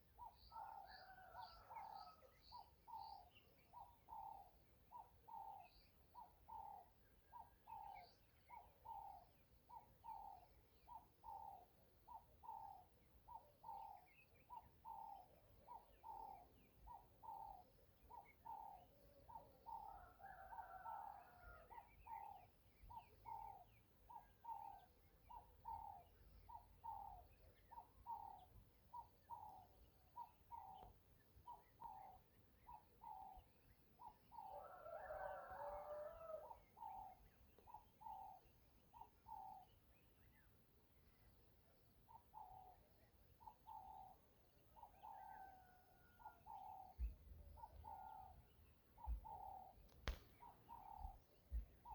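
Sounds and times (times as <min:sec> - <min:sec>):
faint bird calls: 0:00.2 - 0:40.6, 0:42.0 - 0:51.9.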